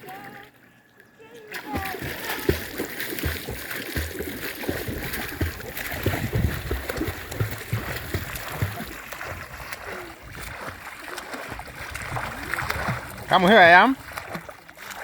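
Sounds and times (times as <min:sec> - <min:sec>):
pool water splashing: 0:00.0 - 0:15.0.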